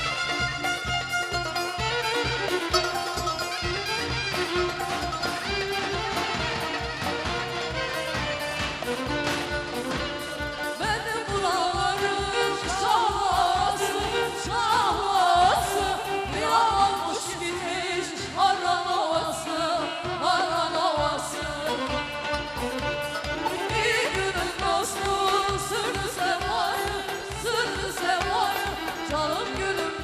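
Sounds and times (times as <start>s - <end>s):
steady drum beat: 0.0s - 17.6s, 21.0s - 30.0s.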